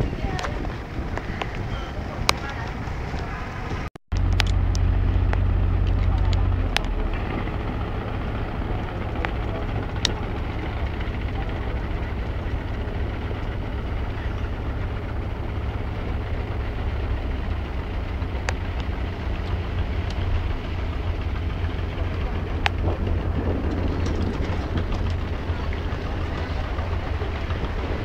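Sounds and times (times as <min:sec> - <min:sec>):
boat engine running: 0:00.0 - 0:28.0.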